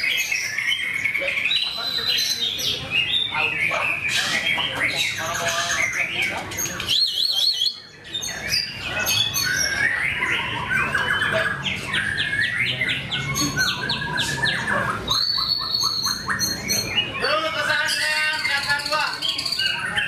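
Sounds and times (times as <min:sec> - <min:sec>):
birds singing whistled phrases: 0:00.0 - 0:20.0.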